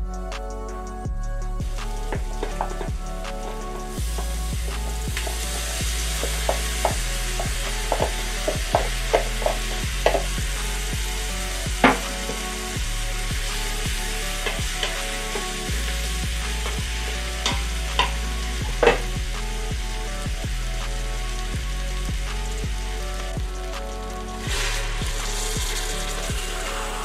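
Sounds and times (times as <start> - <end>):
food sizzling in a pot: 1.6 - 27.0.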